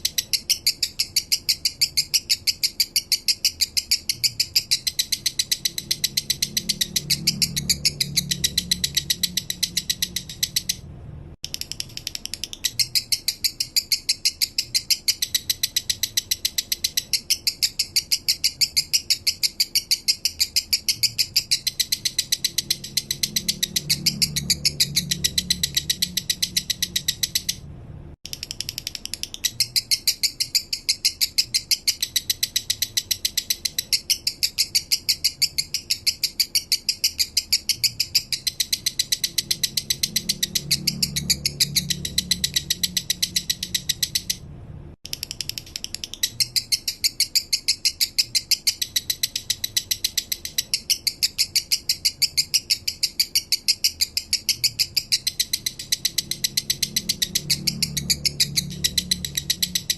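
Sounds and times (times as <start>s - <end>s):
lovebird chirping: 0.0s - 27.7s, 28.3s - 59.9s.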